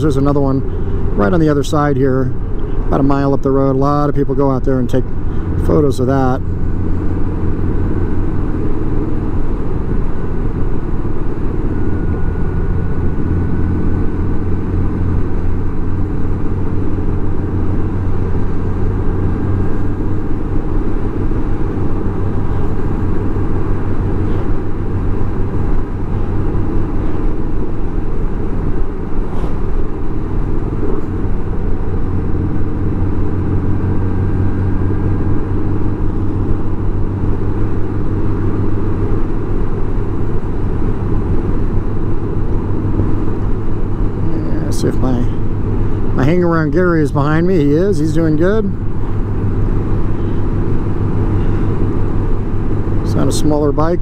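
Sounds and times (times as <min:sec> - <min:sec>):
motorcycle engine cruising: 0:00.0 - 0:54.0
tyres on road: 0:00.0 - 0:54.0.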